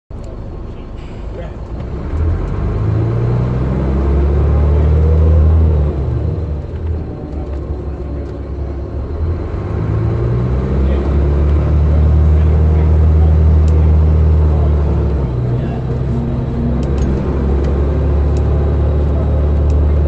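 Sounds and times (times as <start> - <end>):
bus engine rising in pitch: 0.2 - 20.0.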